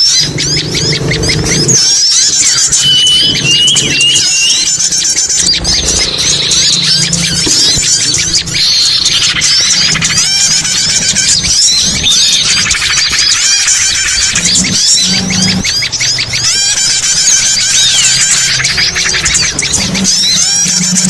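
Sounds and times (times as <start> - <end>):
small birds chirping and trilling: 0.0 - 21.0
low hum: 0.2 - 21.0.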